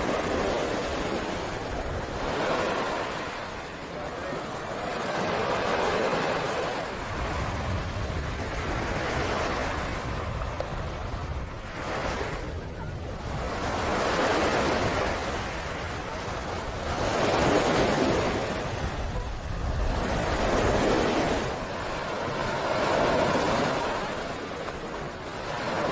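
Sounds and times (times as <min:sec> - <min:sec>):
waves breaking on beach: 0:00.0 - 0:25.9
wind on microphone: 0:00.0 - 0:25.9.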